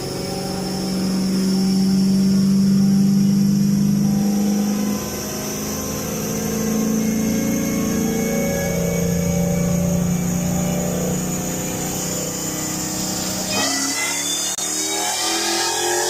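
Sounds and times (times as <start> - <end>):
supercharged car engine on dyno: 0.0 - 16.0.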